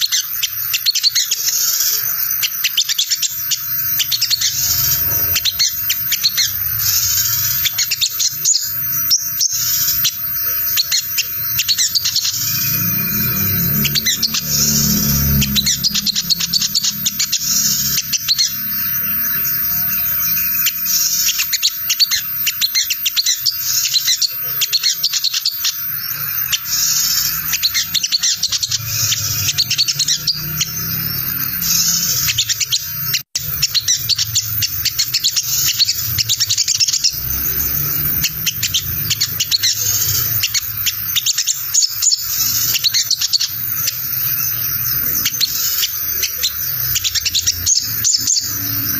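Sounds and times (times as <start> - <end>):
bird chattering twitter: 0.0 - 48.9.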